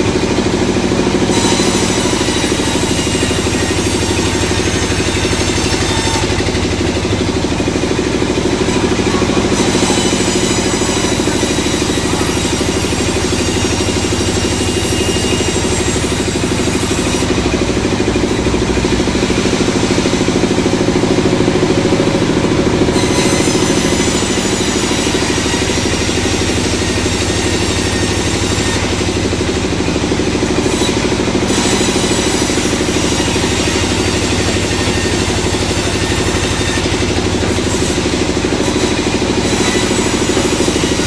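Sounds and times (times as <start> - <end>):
sawmill machinery droning: 0.0 - 41.0.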